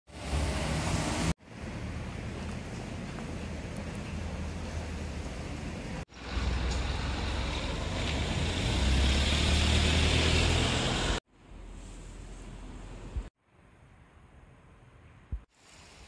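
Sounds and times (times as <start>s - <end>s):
street hum: 0.1s - 15.5s
car tyre and engine noise: 0.1s - 16.0s.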